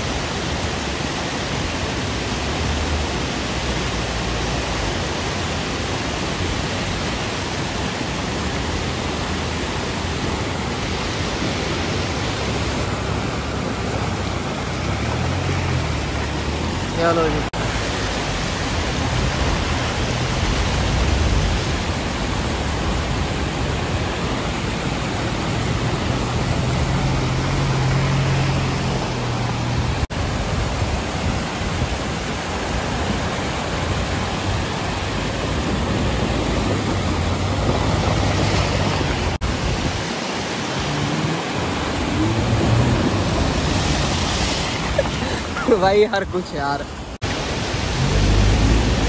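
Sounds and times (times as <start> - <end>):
low hum of off-road engines: 0.0 - 46.3, 46.9 - 49.0
river water rushing over rocks: 0.0 - 49.0
vehicle splashing through water: 0.0 - 49.0.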